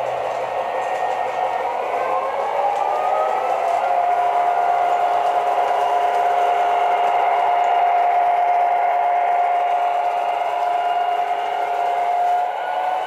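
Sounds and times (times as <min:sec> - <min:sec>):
model train running noise: 0:00.0 - 0:13.0
steady locomotive whine: 0:00.0 - 0:13.0.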